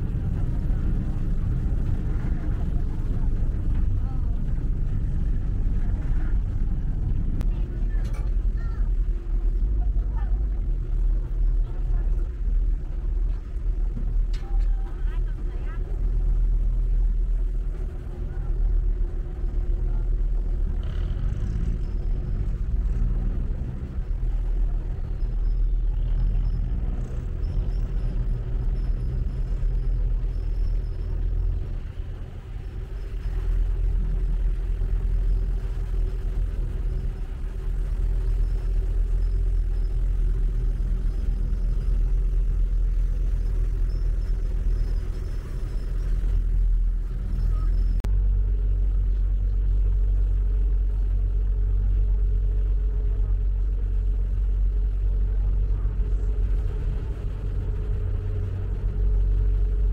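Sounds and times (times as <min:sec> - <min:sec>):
boat engine rumbling: 0:00.0 - 0:59.9.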